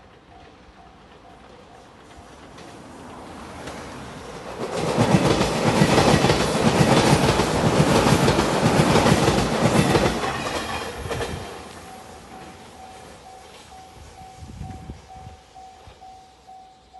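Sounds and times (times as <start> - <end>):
wheels clattering over rail joints: 0.0 - 13.8
electric train passing: 0.0 - 16.9.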